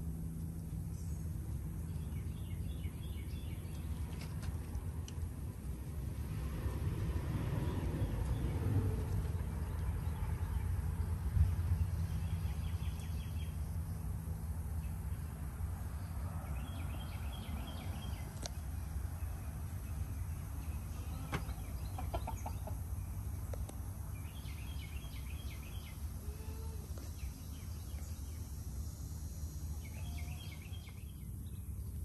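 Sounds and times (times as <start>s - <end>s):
steady low rumble: 0.0s - 30.0s
small birds chirping in trills: 0.1s - 4.6s, 7.6s - 32.0s.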